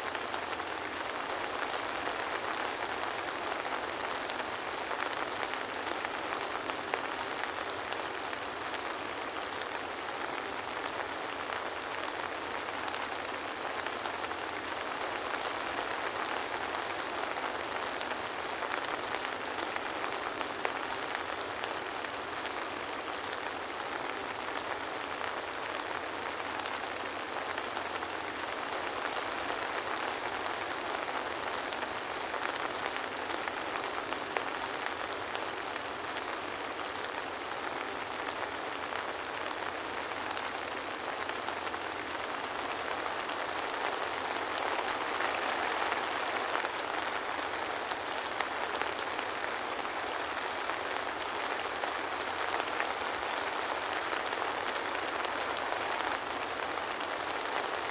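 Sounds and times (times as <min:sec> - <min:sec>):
soft rain falling: 0:00.0 - 0:57.9.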